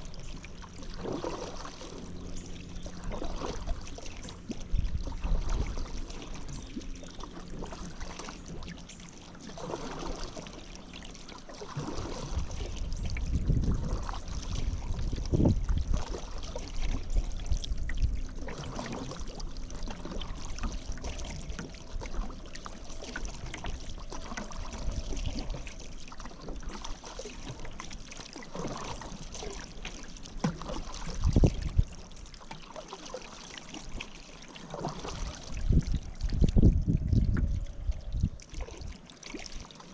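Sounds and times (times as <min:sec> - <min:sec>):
paddle strokes through water: 0:00.0 - 0:39.9.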